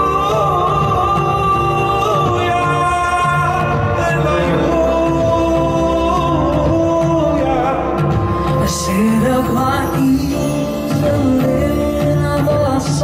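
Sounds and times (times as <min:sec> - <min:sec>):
live band playing slow ballad: 0:00.0 - 0:13.0.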